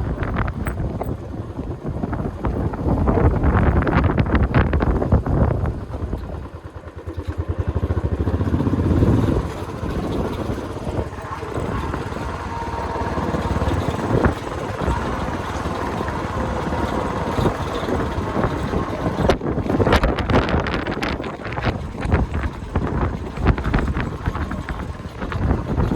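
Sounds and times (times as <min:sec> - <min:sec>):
rapid engine pulsing: 0:00.0 - 0:25.9
vehicle running on road: 0:00.0 - 0:25.9
wind buffeting microphone: 0:00.0 - 0:25.9.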